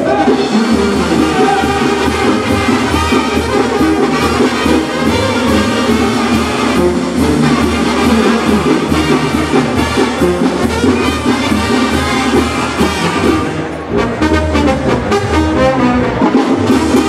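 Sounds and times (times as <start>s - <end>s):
brass band music: 0.0s - 17.0s
trumpets and trombones: 0.0s - 17.0s.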